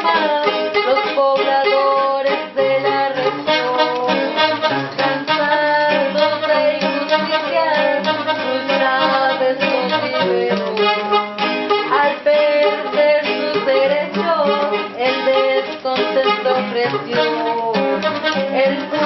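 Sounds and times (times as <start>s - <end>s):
guitar accompaniment: 0.0s - 19.0s
woman singing: 0.0s - 19.0s.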